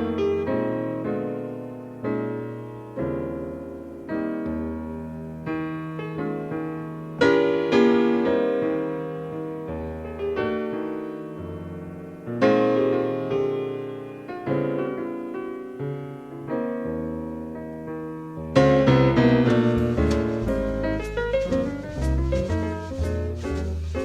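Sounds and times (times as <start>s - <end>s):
jazz piano chords: 0.0s - 24.0s.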